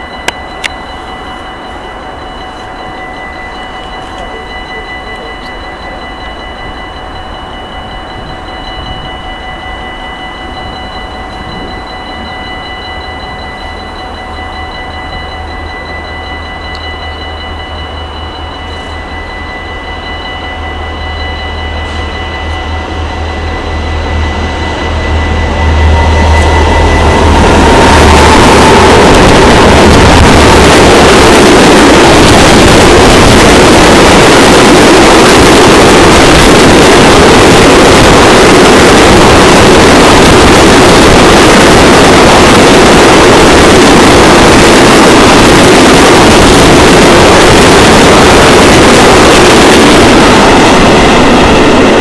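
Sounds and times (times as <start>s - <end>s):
diesel locomotive engine rumble: 0.0s - 52.0s
level-crossing bell ringing: 0.0s - 52.0s.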